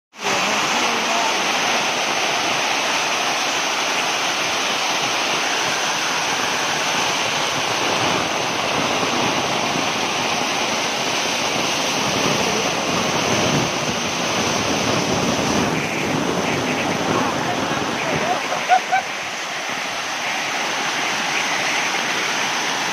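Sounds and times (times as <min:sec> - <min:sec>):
water rushing down stone steps: 0:00.1 - 0:22.9.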